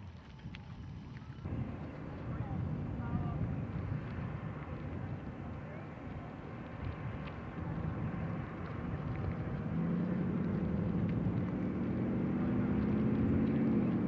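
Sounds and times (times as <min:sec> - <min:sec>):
background rumble: 0:00.0 - 0:14.0
engine hum rising in pitch: 0:01.2 - 0:14.0.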